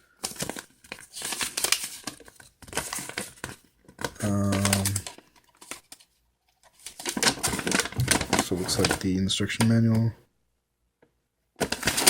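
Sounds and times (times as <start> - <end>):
paper and cardboard rustling: 0.2 - 10.1, 11.6 - 12.0.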